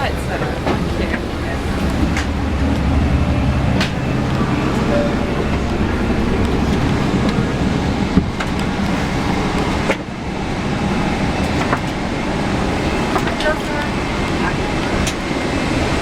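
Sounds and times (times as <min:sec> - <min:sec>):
airliner cabin rumble and hiss: 0:00.0 - 0:16.0.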